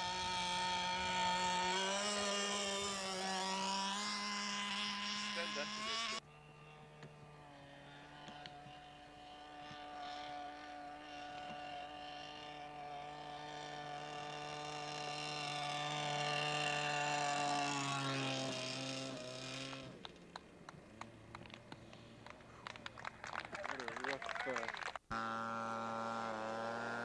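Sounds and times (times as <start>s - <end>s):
model airplane engine: 0.0s - 27.0s.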